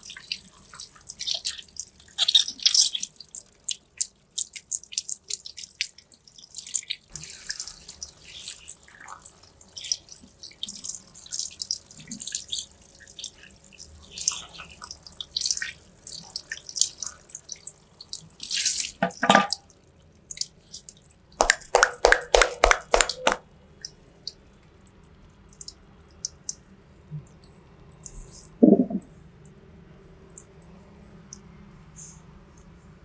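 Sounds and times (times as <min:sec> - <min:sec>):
shower water splashing and dripping: 0:00.0 - 0:29.1.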